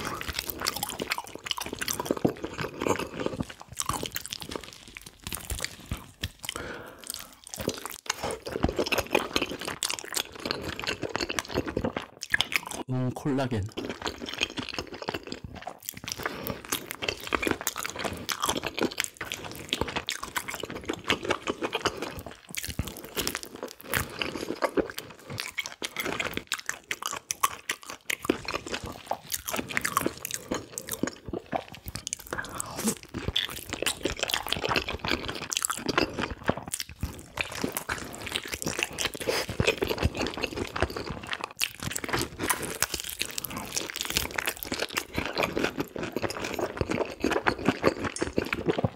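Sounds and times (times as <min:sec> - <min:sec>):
chewing with clicks and crunches: 0:00.0 - 0:48.9.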